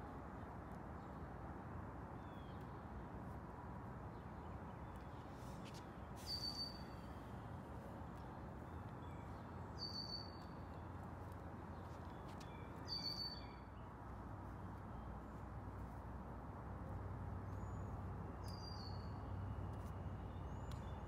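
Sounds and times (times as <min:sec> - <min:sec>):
faint outdoor hum: 0:00.0 - 0:21.0.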